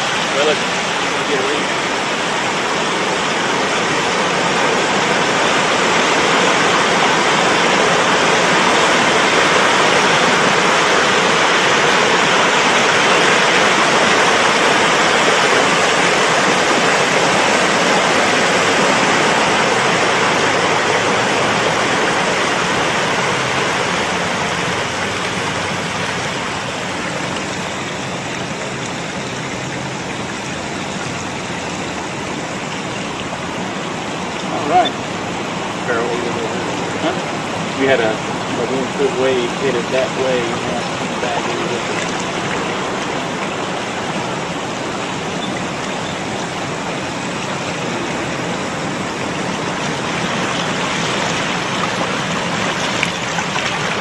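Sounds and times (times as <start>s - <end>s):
water churning and rushing: 0.0s - 54.0s.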